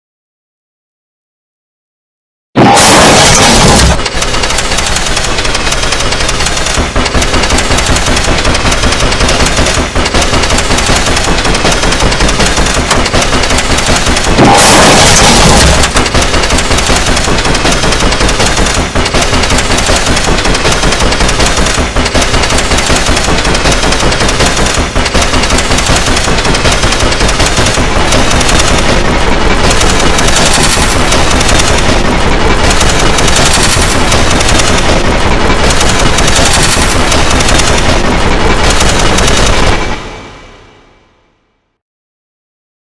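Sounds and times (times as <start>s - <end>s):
distorted stuttering remix sample: 2.6s - 40.0s.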